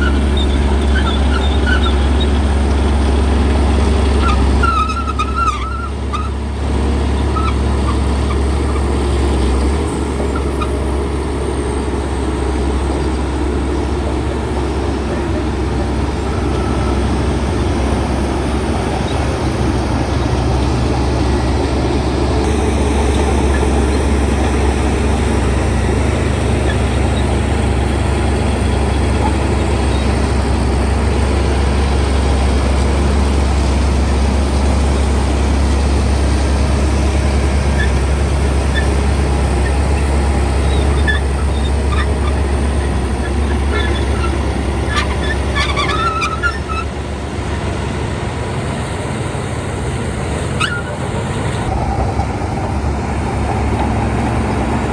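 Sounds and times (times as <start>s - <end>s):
bulldozer diesel engine droning: 0.0s - 54.9s.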